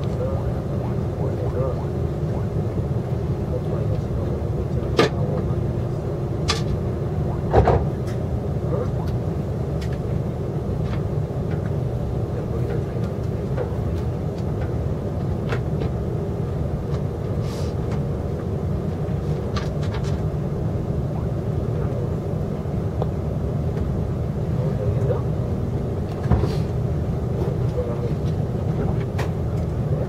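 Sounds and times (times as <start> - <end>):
train carriage rumble: 0.0 - 30.0.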